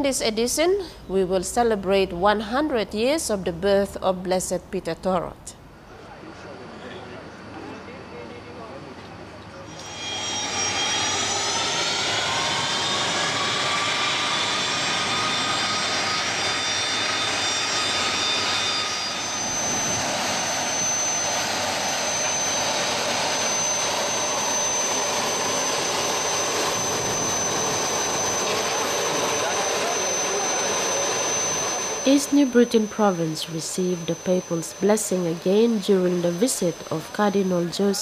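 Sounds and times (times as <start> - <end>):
jet engines whining: 5.6 - 38.0.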